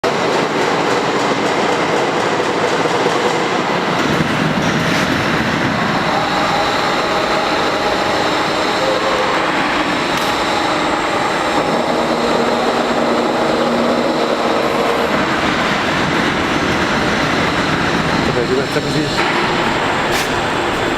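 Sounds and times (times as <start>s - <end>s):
hydraulic press humming and hissing: 3.8s - 20.9s.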